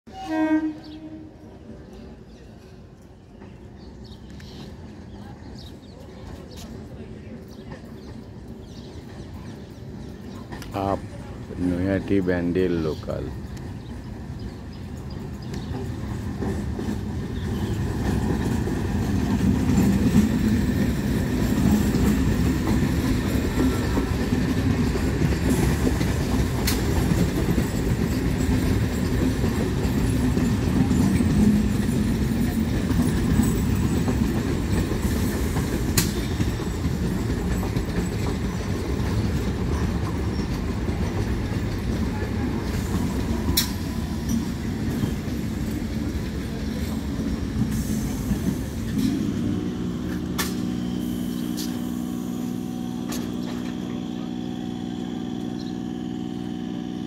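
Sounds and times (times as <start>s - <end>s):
electric train rumbling past: 0.1s - 57.0s
clickety-clack over rail joints: 1.9s - 52.2s.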